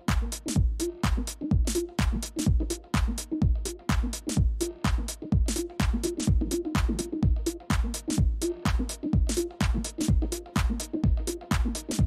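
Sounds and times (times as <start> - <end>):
crisp hi-hats: 0.0 - 12.0
kick drum: 0.0 - 12.0.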